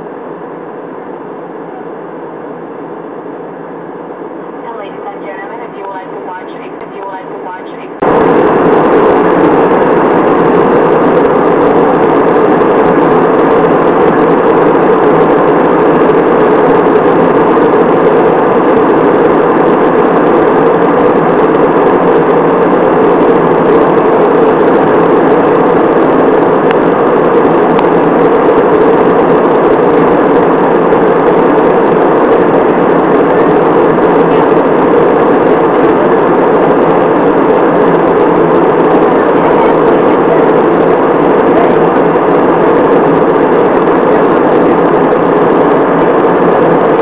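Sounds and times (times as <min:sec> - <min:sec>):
jet airliner cabin roar: 0:00.0 - 0:47.0.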